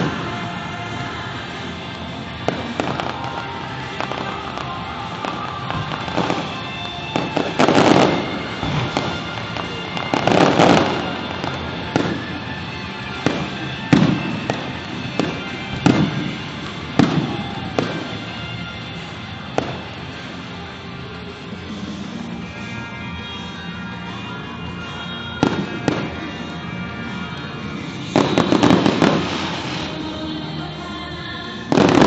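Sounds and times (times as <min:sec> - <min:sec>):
fireworks booming: 0:00.0 - 0:22.3, 0:25.4 - 0:26.5, 0:27.8 - 0:30.1, 0:31.7 - 0:32.0
background music: 0:00.0 - 0:32.0
fireworks crackling: 0:00.0 - 0:32.0.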